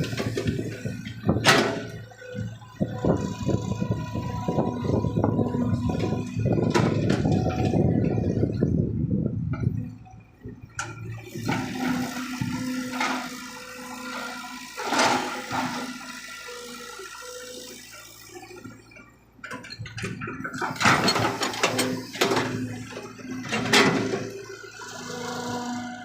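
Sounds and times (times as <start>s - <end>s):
excavator engine humming: 0.0s - 26.0s.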